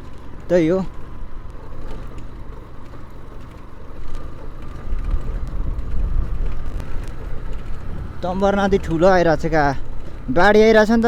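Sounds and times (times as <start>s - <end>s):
motorcycle engine running: 0.0s - 11.0s
road and wind rumble: 0.0s - 11.0s.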